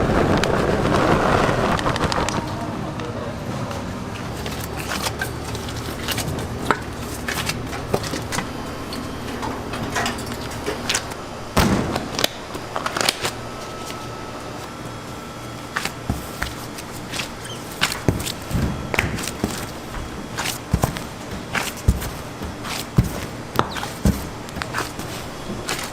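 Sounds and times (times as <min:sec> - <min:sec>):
faint steady whine: 0:00.0 - 0:25.9
steady background hum: 0:00.0 - 0:25.9.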